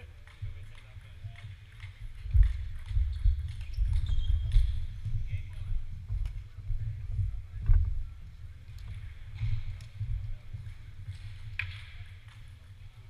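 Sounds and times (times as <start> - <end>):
low hall rumble: 0.0 - 13.0.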